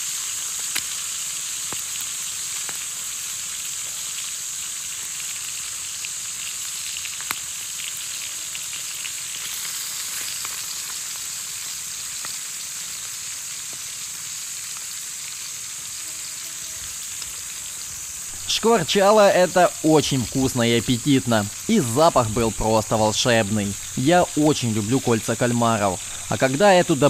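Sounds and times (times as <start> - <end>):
squid sizzling in oil: 0.0 - 27.0.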